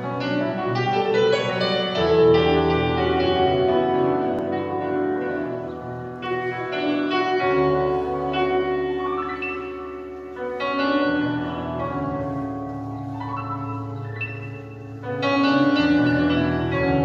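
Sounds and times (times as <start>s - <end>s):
electric keyboard chords: 0.0s - 17.0s.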